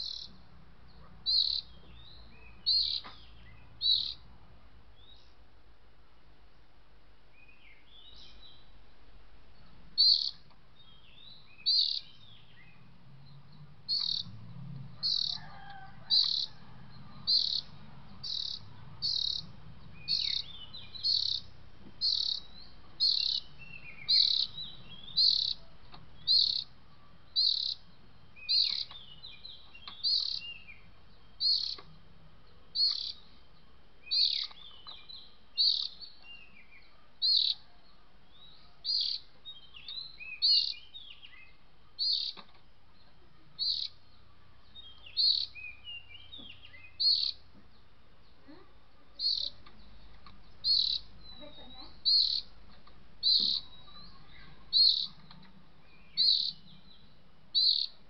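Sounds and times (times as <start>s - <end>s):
varied bird chirping: 0.0s - 6.7s, 7.3s - 58.0s.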